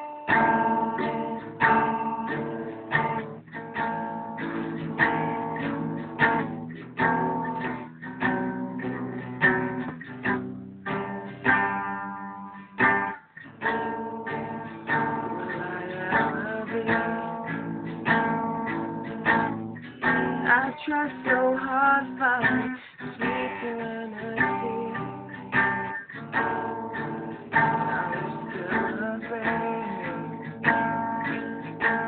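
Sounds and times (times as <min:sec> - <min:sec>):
acoustic guitar strumming chords: 0:00.0 - 0:32.0.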